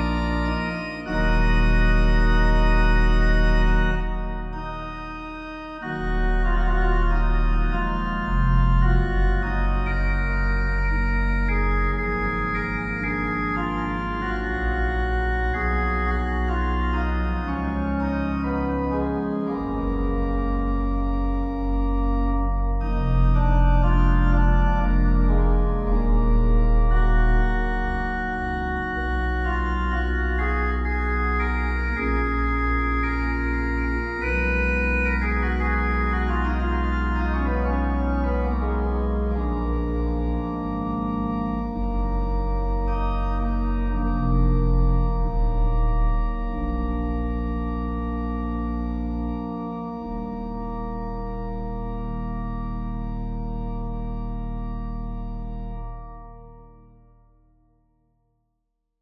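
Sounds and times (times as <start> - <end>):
slow organ music: 0.0 - 57.6.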